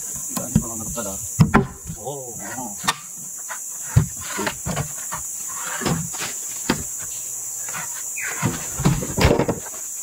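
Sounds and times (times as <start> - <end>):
footsteps and wood knocks: 0.0 - 2.0, 2.8 - 10.0
insects droning: 0.0 - 10.0.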